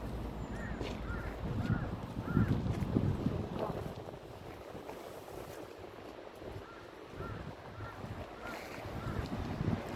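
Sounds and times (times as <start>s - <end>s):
wind on microphone: 0.0s - 9.9s.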